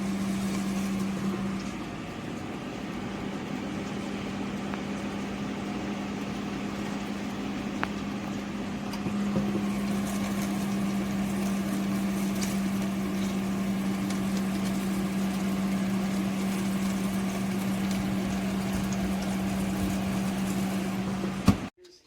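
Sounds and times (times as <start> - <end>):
electric appliance hum: 0.0 - 21.7
fan whirring: 0.0 - 21.8.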